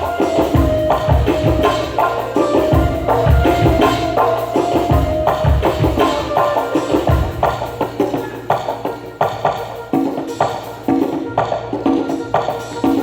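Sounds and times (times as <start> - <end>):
held melody line: 0.0 - 13.0.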